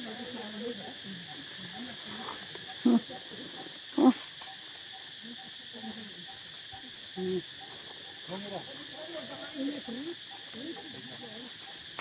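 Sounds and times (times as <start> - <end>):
high-pitched insect drone: 0.0 - 12.0
loud insect calls: 0.0 - 12.0.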